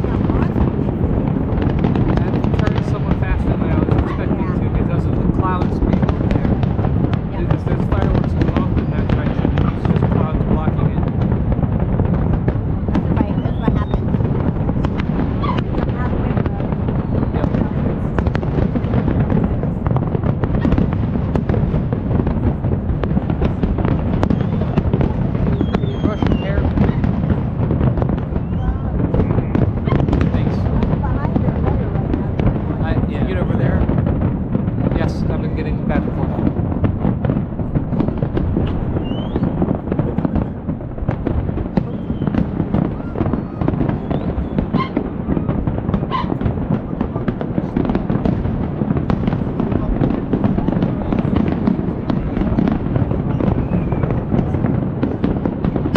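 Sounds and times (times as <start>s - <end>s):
fireworks bangs and crackles: 0.0s - 55.9s
fireworks rumbling: 0.0s - 55.9s.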